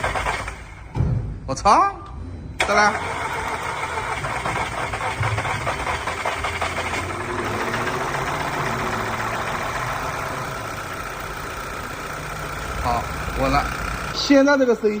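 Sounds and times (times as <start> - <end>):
engine ticking: 0.0 - 0.9, 2.9 - 15.0
car engine idling: 3.0 - 15.0.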